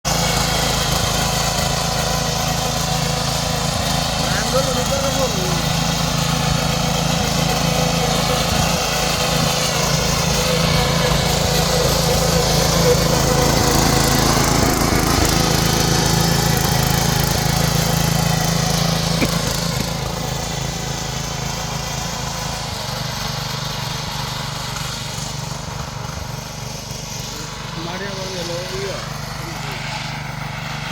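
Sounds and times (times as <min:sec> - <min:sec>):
small gasoline engine running: 0:00.0 - 0:30.9.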